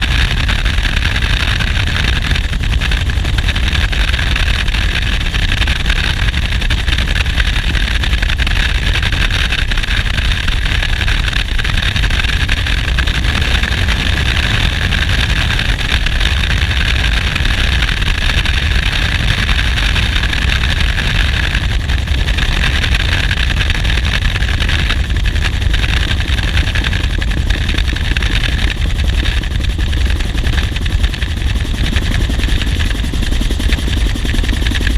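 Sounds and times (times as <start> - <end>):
helicopter rotor and turbine din: 0.0 - 34.9.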